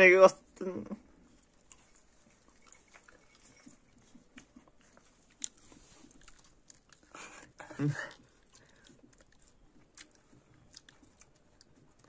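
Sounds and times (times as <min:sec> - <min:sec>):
person chewing: 0:01.2 - 0:12.0.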